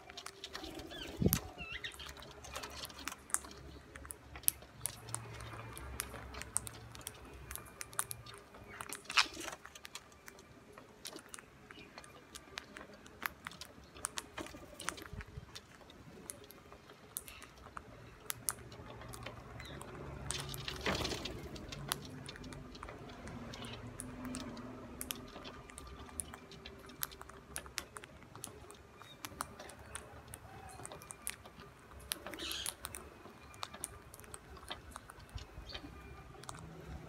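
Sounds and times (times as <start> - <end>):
birds cracking seeds and pecking: 0.0 - 37.0.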